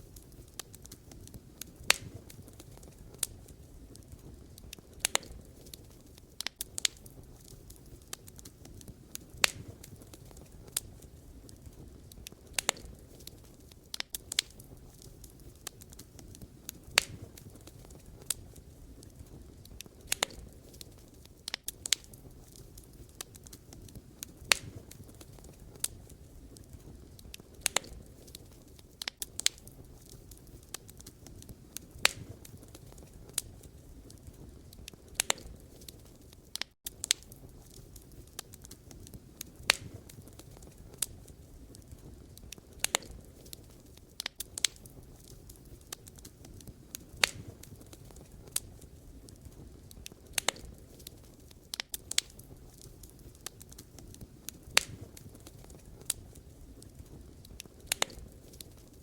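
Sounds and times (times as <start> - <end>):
campfire crackling and popping: 0.0 - 59.0
low rumble of flames: 0.0 - 59.0.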